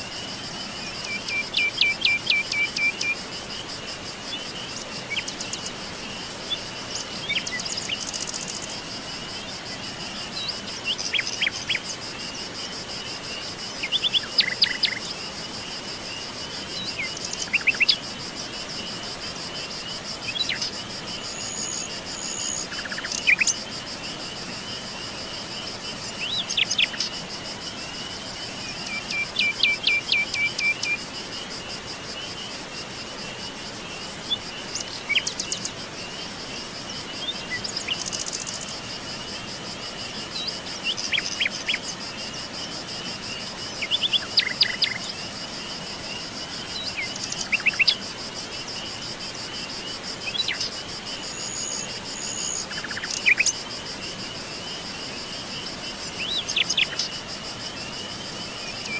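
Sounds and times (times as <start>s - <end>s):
crickets droning: 0.0s - 58.9s.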